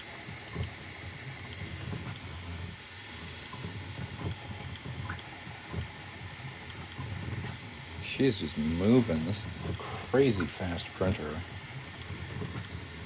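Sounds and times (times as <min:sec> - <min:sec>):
print head knocks and ticks: 0:00.0 - 0:13.0
stepper motor hum: 0:00.0 - 0:13.0.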